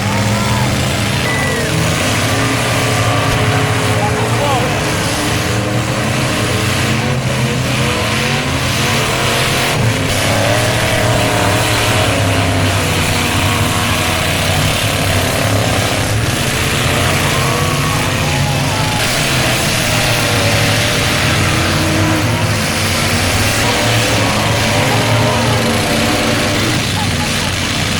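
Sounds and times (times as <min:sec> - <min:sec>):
car engines revving: 0:00.0 - 0:27.9.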